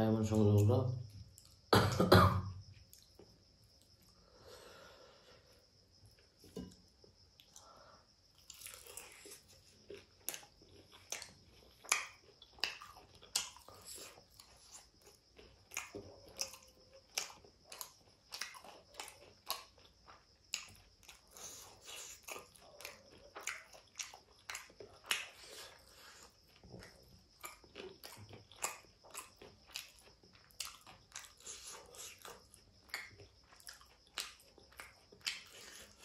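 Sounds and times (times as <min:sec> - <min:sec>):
chewing crunchy food: 0:06.1 - 0:36.0.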